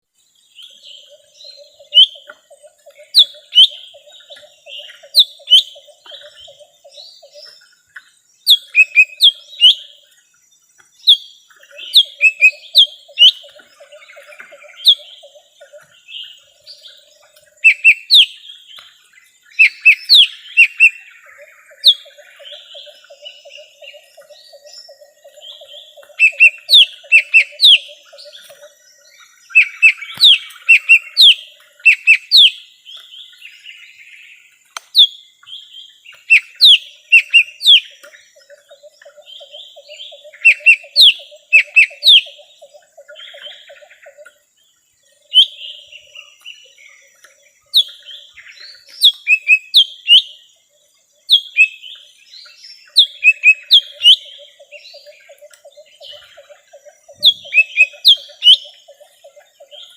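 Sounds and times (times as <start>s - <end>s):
bird singing whistled notes: 0.0s - 10.2s, 10.8s - 59.9s.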